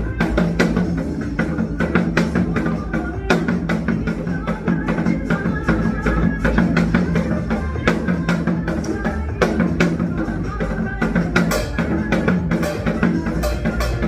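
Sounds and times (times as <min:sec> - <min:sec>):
recorded song accompaniment: 0:00.0 - 0:14.0.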